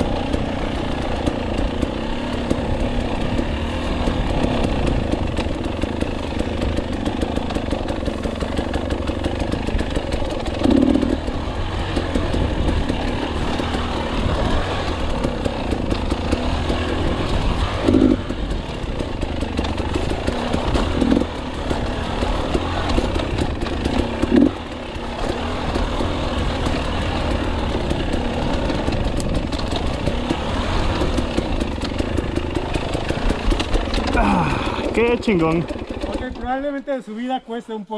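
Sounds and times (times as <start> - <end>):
motorcycle engine running: 0.0 - 37.5.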